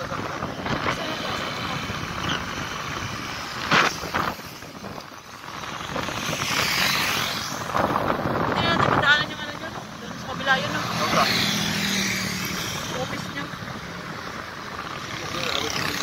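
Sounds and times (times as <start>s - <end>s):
motorcycle engine: 0.0s - 16.0s
wind and road noise: 0.0s - 16.0s.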